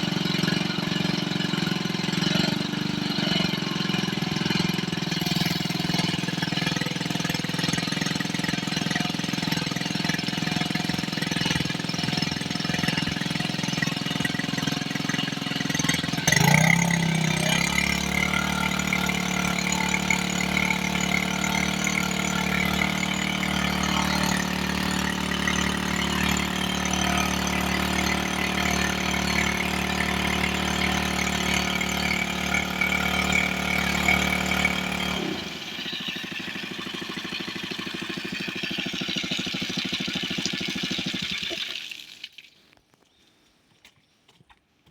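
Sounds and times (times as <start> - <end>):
small gasoline engine pump running: 0.0 - 42.6.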